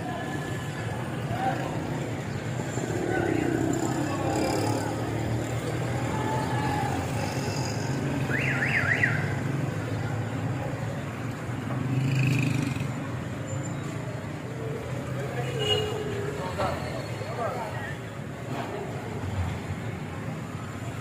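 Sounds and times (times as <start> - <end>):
street traffic hum: 0.0 - 21.0.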